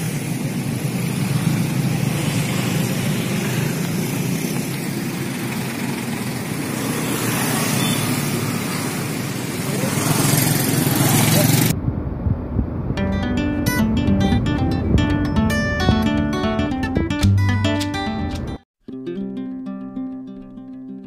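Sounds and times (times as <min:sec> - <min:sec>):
city traffic rumble: 0:00.0 - 0:18.6.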